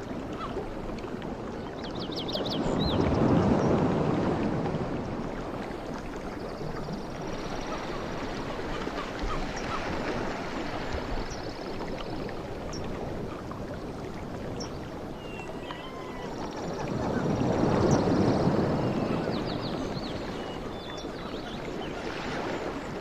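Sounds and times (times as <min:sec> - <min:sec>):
sea waves washing on shore: 0:00.0 - 0:23.0.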